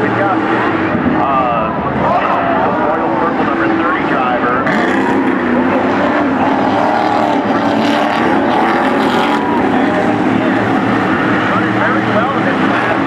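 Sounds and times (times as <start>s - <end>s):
racing truck engines passing: 0.0s - 13.0s.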